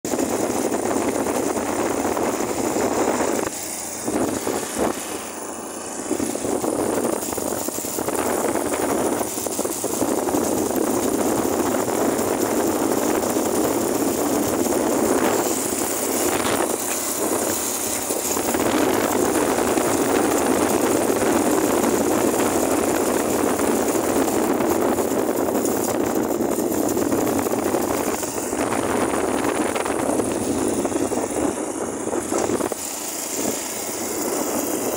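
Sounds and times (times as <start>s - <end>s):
wind and road noise: 0.1s - 34.9s.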